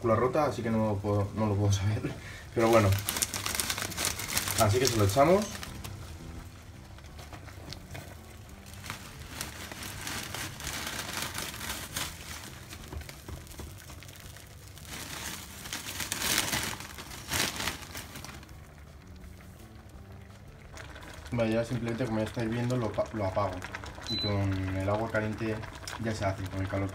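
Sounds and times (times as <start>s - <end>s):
dry noodles crackling: 2.5s - 26.9s.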